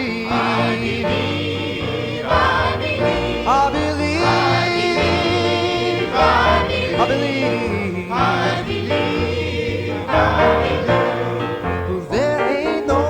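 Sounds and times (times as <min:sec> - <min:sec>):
instrumental accompaniment with bass: 0:00.0 - 0:13.0
voices singing gospel song: 0:00.0 - 0:13.0.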